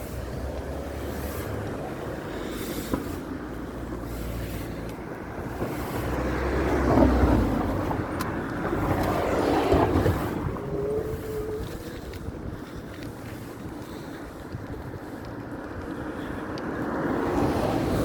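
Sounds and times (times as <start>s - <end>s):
wind buffeting on microphone: 0.0s - 18.0s.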